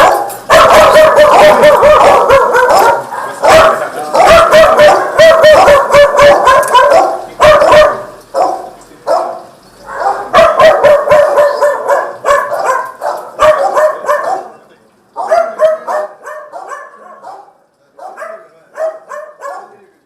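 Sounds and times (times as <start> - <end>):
dog barking: 0.0 - 14.6, 15.2 - 19.8.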